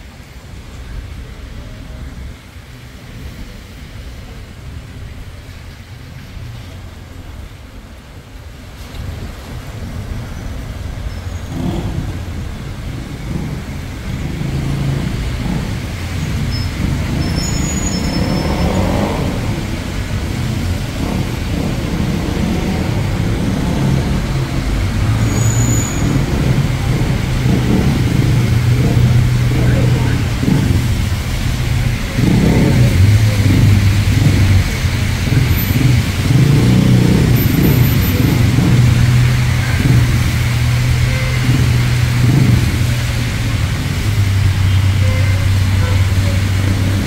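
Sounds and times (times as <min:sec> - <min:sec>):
traffic on wet street: 0:00.0 - 0:47.0.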